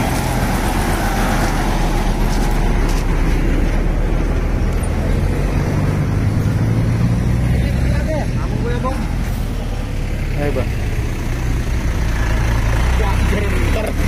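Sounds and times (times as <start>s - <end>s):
road traffic noise: 0.0s - 14.0s
truck engine running: 0.0s - 14.0s.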